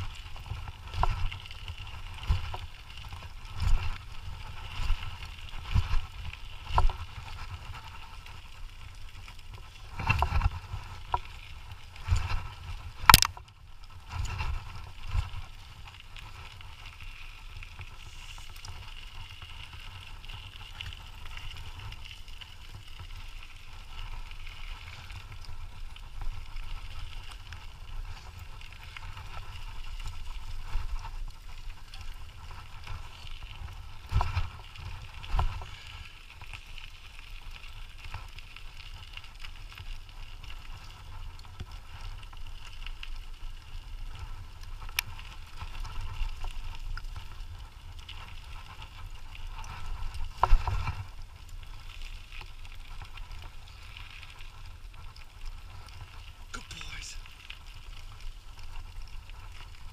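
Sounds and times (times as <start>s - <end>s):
scooter wheels rumbling and rattling: 0.0s - 56.5s.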